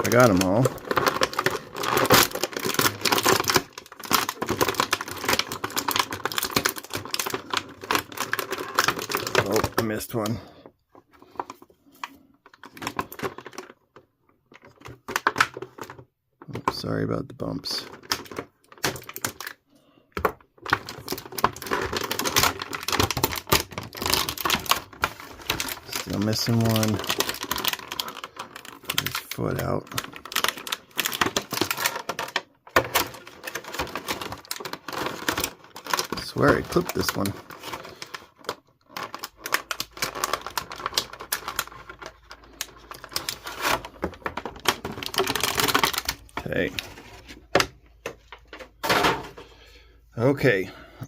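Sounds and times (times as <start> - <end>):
plastic packaging clicking and rustling: 0.0 - 49.6.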